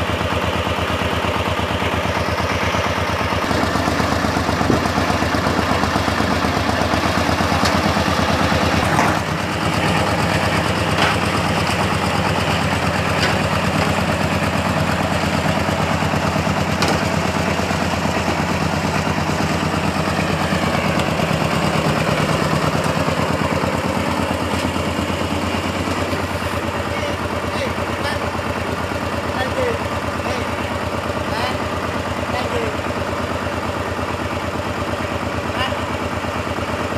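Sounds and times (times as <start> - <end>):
diesel engine knocking: 0.0 - 36.9.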